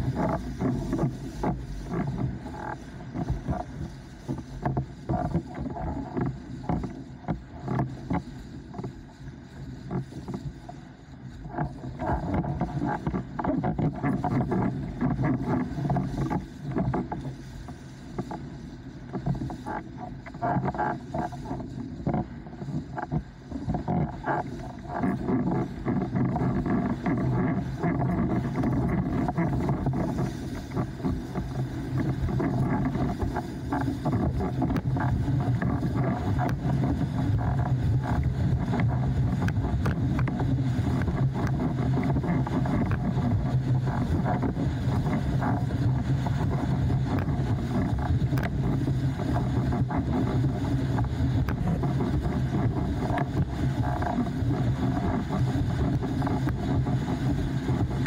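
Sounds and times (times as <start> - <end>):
water rushing under board: 0.0 - 58.0
wind on microphone: 0.0 - 58.0.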